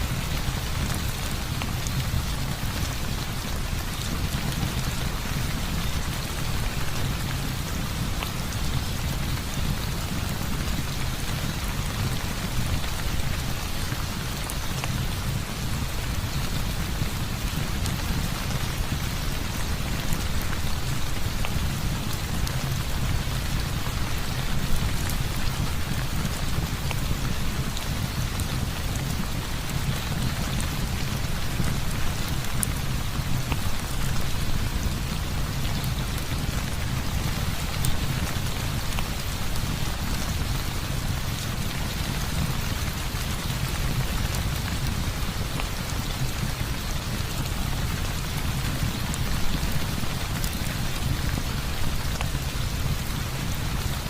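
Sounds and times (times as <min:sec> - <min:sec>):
heavy rain falling: 0:00.0 - 0:54.0
raindrop ticks: 0:00.1 - 0:54.0.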